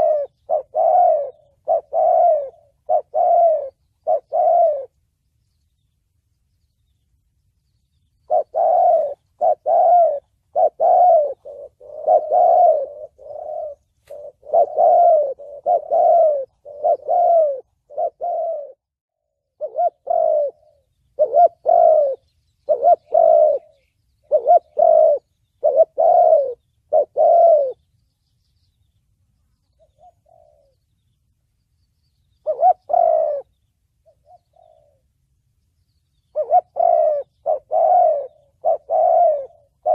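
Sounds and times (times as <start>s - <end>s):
dove cooing: 0.0s - 5.0s, 8.2s - 27.9s, 29.6s - 31.1s, 32.3s - 35.2s, 36.1s - 39.9s.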